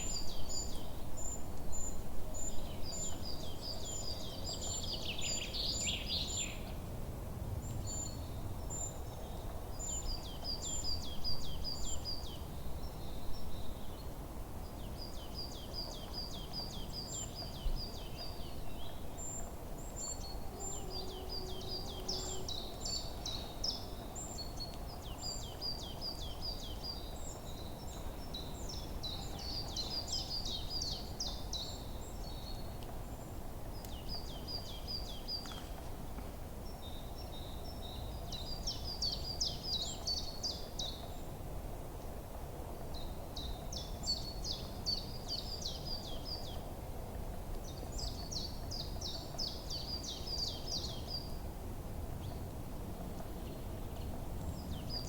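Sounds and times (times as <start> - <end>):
forest birds singing: 0.0 - 6.8, 7.6 - 41.6, 42.8 - 46.8, 47.5 - 51.6, 53.2 - 55.0.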